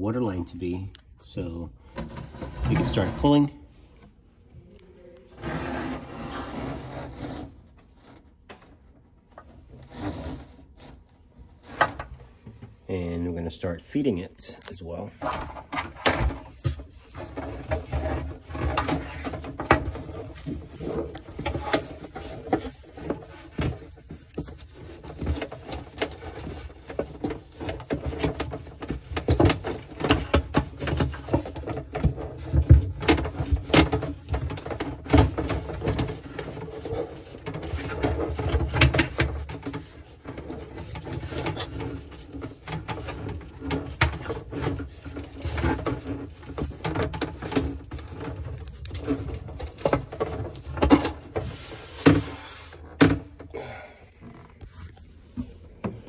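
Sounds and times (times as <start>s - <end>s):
plastic hose rustling and scraping: 1.8s - 4.8s, 5.4s - 56.0s.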